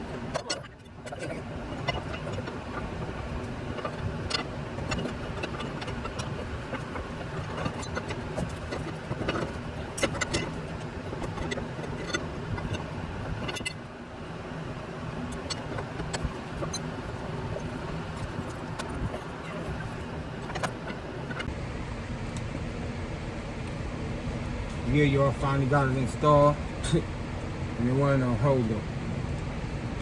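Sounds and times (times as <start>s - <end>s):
steady low rumble: 1.4s - 30.0s.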